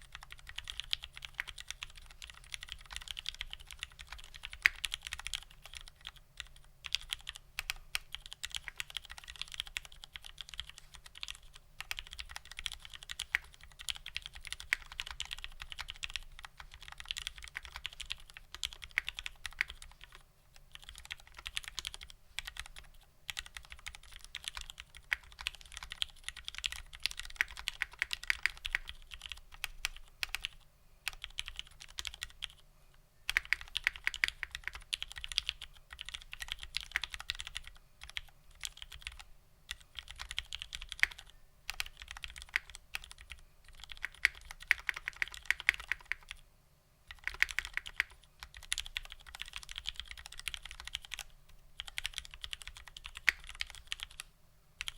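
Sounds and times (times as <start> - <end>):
fast mechanical keyboard typing: 0.0 - 32.6, 33.3 - 46.4, 47.1 - 54.9.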